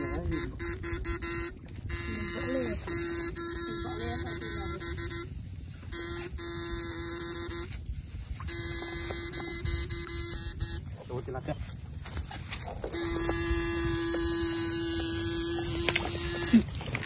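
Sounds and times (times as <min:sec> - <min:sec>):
electric hum buzzing: 0:00.0 - 0:11.2, 0:12.5 - 0:17.0.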